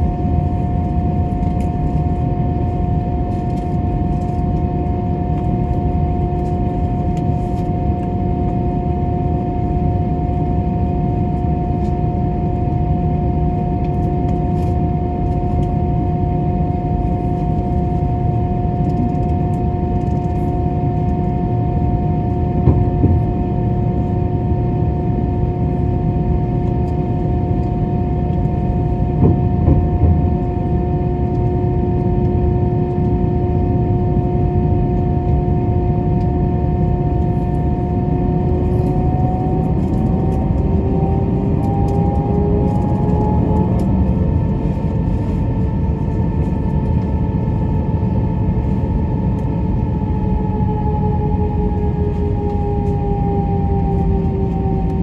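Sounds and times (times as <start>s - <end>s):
jet engines low rumble: 0.0s - 55.0s.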